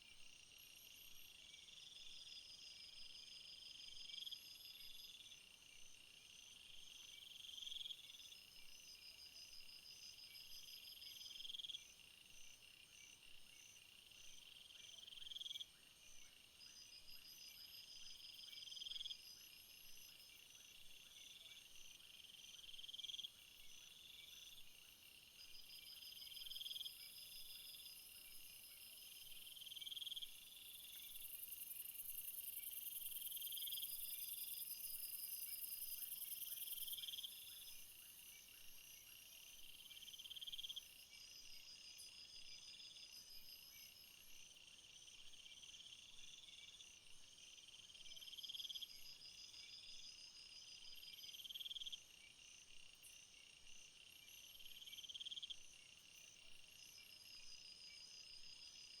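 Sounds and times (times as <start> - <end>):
pulsing insect chirp: 0.3 - 59.0.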